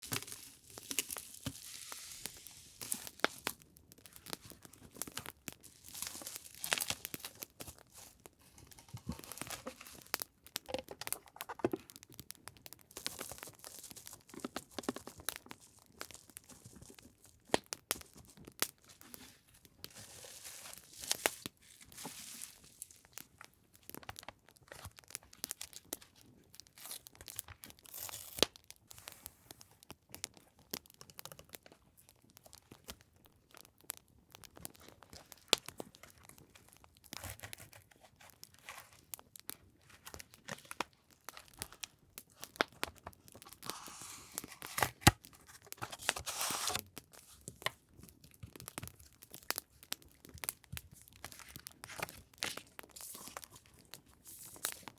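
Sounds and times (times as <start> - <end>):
campfire crackling: 0.0 - 29.2, 38.2 - 54.9
packaging rustling and crinkling: 0.0 - 30.4, 34.5 - 54.9.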